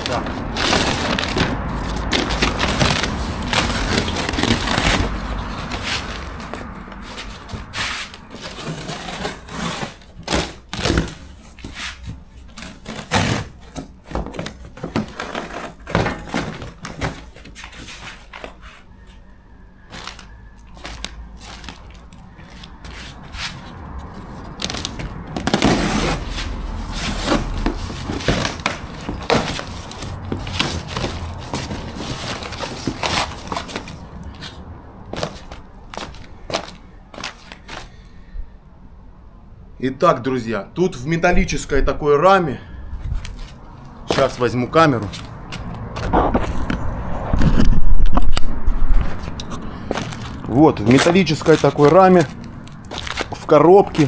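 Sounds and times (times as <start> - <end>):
cardboard tearing and rustling: 0.0 - 18.8, 19.9 - 38.0, 43.2 - 46.7, 47.4 - 54.0.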